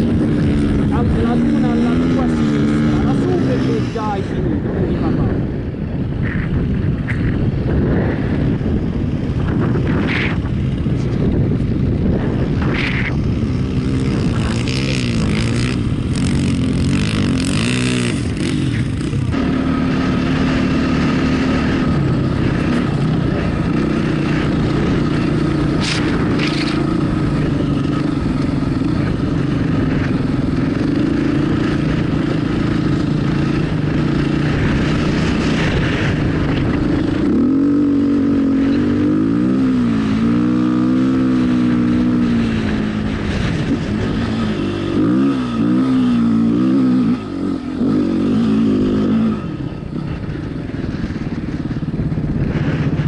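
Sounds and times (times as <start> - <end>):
off-road motorcycle engine revving: 0.0 - 53.0.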